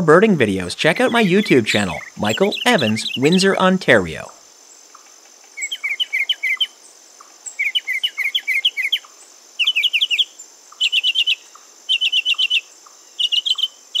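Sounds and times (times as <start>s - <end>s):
mockingbird singing: 0.0s - 4.4s, 5.6s - 6.7s, 7.5s - 14.0s.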